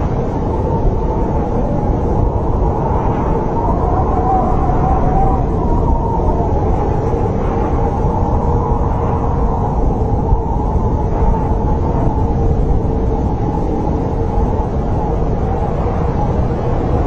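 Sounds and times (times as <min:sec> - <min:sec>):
snowstorm wind howling: 0:00.0 - 0:17.0.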